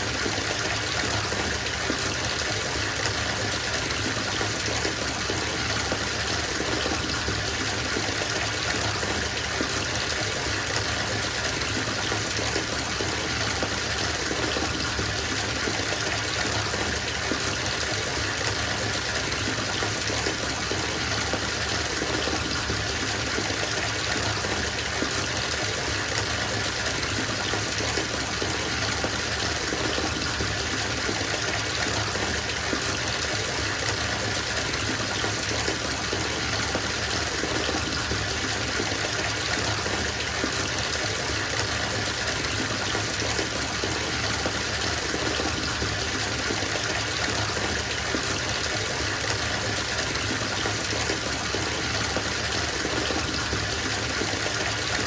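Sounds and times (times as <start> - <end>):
tap water filling bathtub: 0.0 - 55.0.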